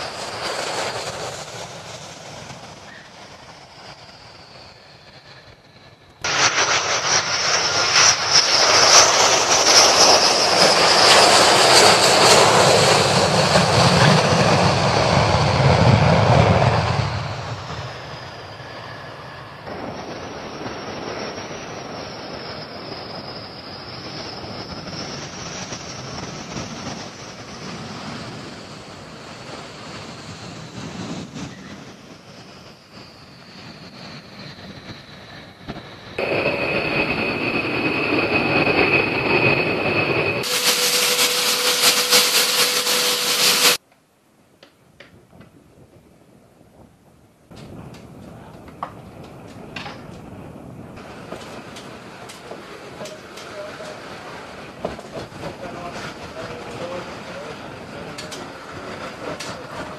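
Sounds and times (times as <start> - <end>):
high jet whine: 0.0 - 43.8, 47.5 - 59.9
jet engines roaring on takeoff: 0.0 - 43.8, 47.2 - 59.9.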